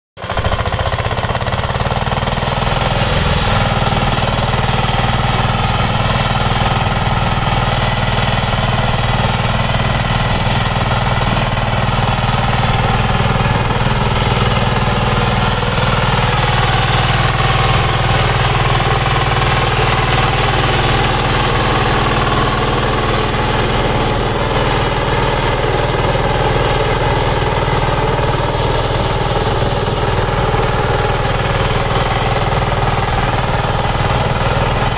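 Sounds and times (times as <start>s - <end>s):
diesel engine running under load: 0.2s - 34.9s
rotary tiller churning dry soil: 0.2s - 34.9s.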